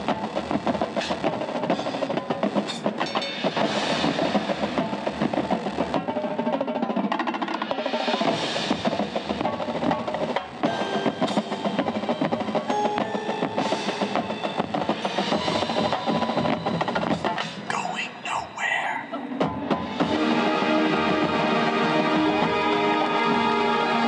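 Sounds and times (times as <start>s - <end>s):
marching drumline playing: 0.0s - 18.7s, 19.3s - 22.8s.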